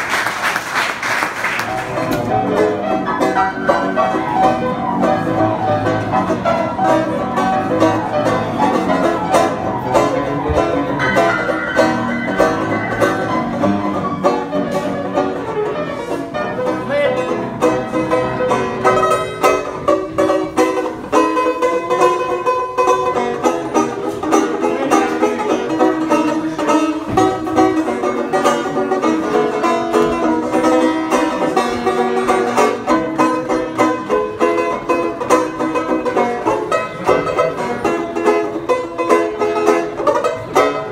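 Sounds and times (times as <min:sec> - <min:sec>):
upright piano playing: 0:01.2 - 0:40.9
banjo playing: 0:01.6 - 0:40.9.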